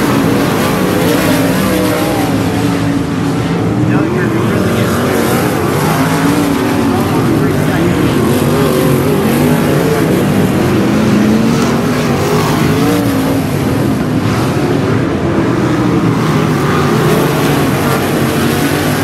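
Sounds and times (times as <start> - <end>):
sprint car engines racing past: 0.0 - 19.0.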